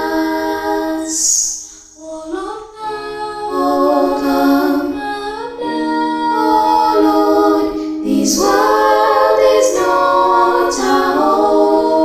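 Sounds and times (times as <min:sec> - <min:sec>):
vocal group singing a hymn: 0:00.0 - 0:12.0.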